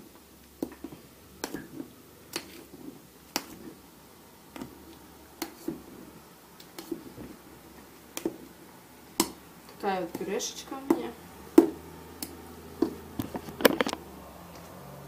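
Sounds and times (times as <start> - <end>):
potatoes being mashed squelching: 0.0 - 14.0.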